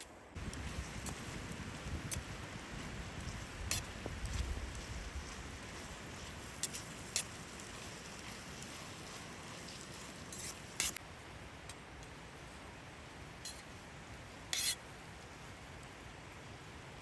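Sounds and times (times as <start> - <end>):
rain hissing: 0.4 - 17.0.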